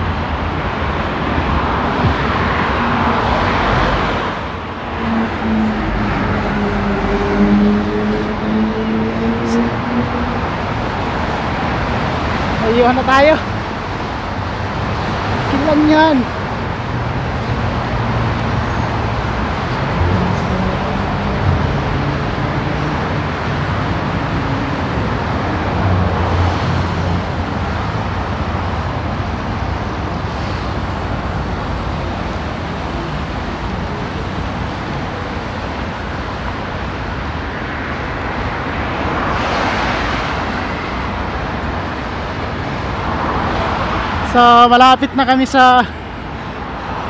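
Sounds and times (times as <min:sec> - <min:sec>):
car engines passing: 0:00.0 - 0:47.0
road traffic rushing: 0:00.0 - 0:47.0.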